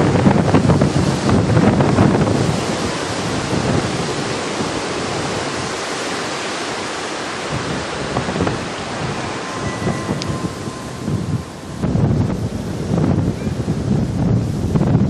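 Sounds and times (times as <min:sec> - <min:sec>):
wind blowing on microphone: 0:00.0 - 0:15.0.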